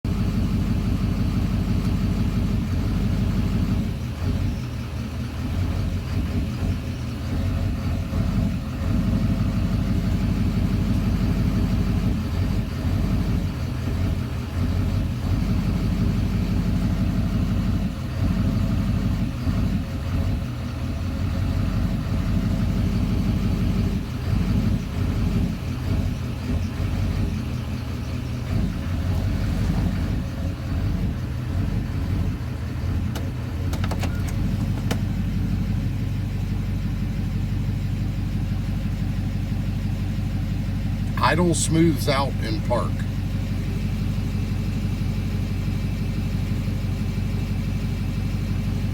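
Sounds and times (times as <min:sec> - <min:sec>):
diesel engine idling rough: 0:00.0 - 0:48.9.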